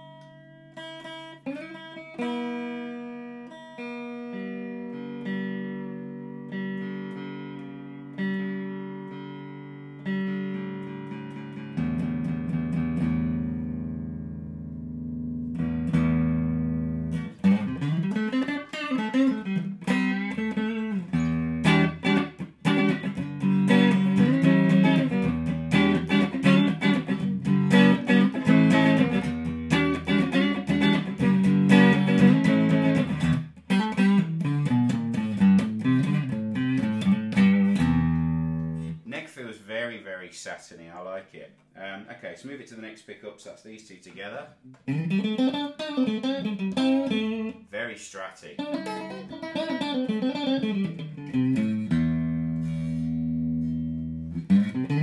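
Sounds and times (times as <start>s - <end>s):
clean electric guitar: 0.0s - 39.7s, 44.1s - 55.0s.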